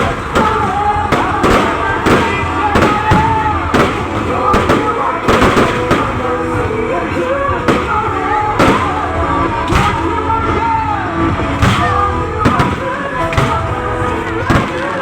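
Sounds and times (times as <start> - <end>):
fireworks bangs: 0.0 - 15.0
loud music: 0.0 - 15.0.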